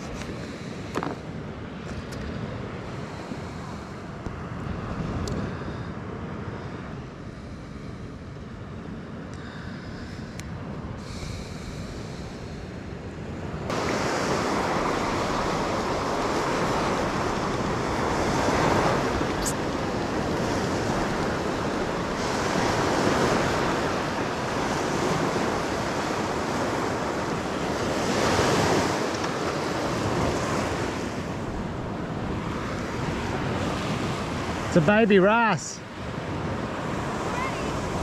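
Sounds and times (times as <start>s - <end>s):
wind on microphone: 0.0s - 34.8s, 35.8s - 38.0s
small waves breaking on sand: 0.0s - 38.0s.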